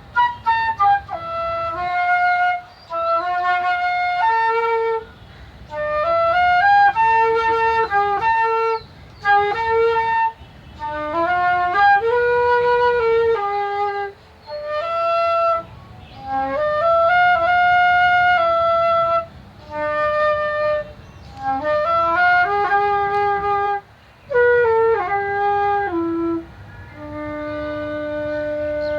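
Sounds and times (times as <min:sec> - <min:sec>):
solo wind instrument melody: 0:00.0 - 0:28.9.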